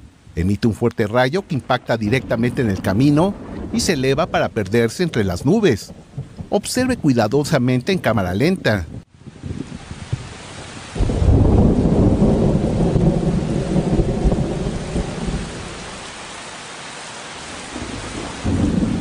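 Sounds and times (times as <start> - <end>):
steady rain: 0.0 - 19.0
thunder rumbling: 1.1 - 16.2, 17.6 - 19.0.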